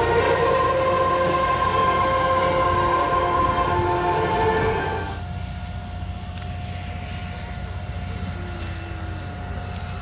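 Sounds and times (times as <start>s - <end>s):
jet engine rumble and whine: 0.0s - 10.0s.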